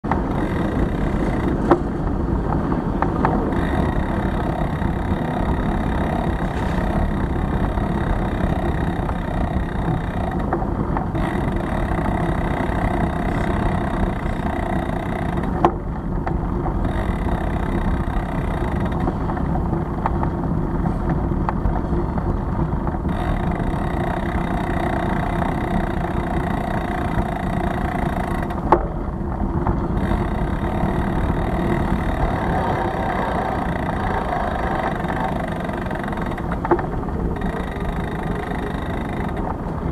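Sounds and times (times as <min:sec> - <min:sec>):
bicycle rolling over brick paving: 0:00.0 - 0:39.9
street traffic: 0:00.0 - 0:39.9
wind noise: 0:00.0 - 0:39.9.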